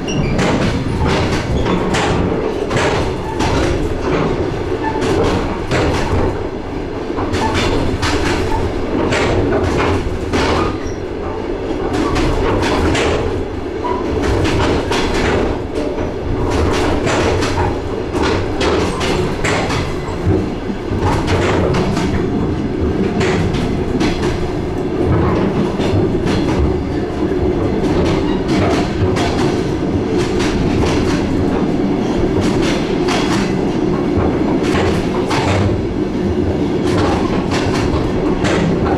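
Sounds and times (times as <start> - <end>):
train running rumble: 0.0 - 38.9.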